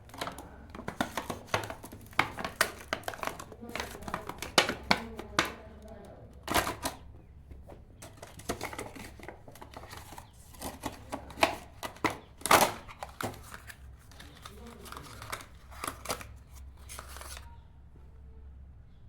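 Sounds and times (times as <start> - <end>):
plastic parts clacking: 0.0 - 7.1, 8.0 - 17.6
plastic packaging rustling: 0.0 - 17.6.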